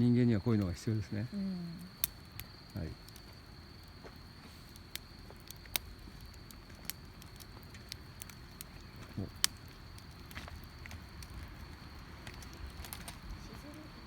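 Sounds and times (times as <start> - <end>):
campfire crackling: 0.0 - 14.0
insect trill: 0.0 - 14.0.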